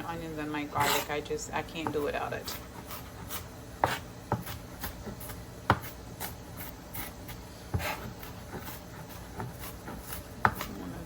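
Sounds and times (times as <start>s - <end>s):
knife scraping on board: 0.7s - 1.2s, 1.8s - 10.9s
knife cutting on cutting board: 0.8s - 1.2s, 1.8s - 10.9s.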